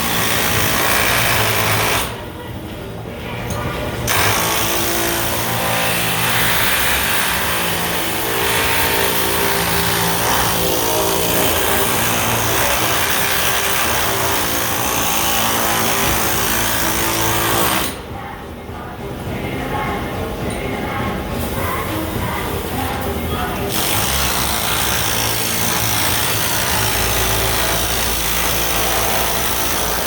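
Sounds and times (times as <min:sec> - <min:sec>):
air hammer on sheet metal: 0:00.0 - 0:02.3, 0:04.1 - 0:18.1, 0:21.4 - 0:30.0.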